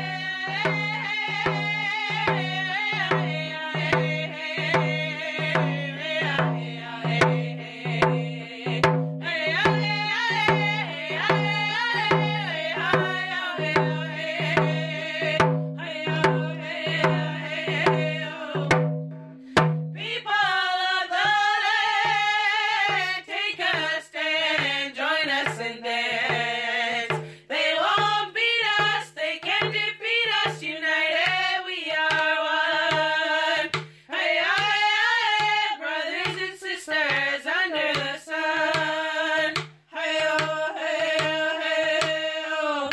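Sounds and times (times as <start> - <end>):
hand drum beat: 0.0 - 20.2, 21.2 - 35.6, 36.2 - 42.3
women singing: 0.0 - 42.9.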